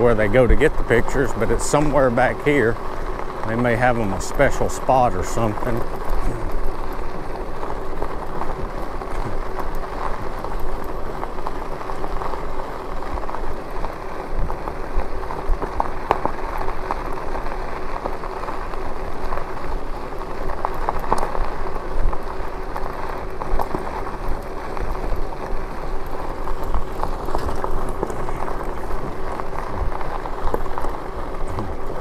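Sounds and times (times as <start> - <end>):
steady hum: 0.0 - 32.0
tyres rolling on rough road: 0.0 - 32.0.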